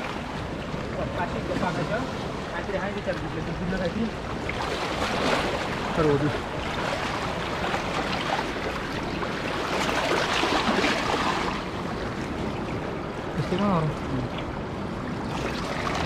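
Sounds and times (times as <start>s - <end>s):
water splashing over rocks: 0.0s - 14.6s, 15.2s - 16.0s.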